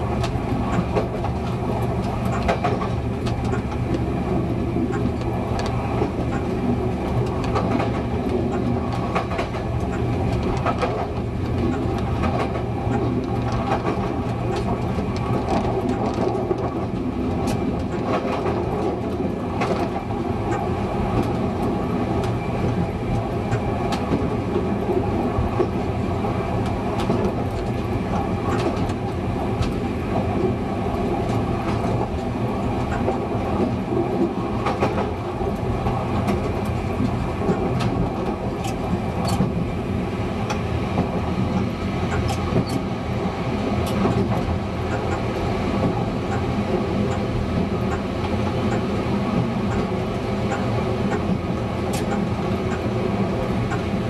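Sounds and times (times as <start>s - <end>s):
diesel railcar engine running: 0.0s - 54.0s.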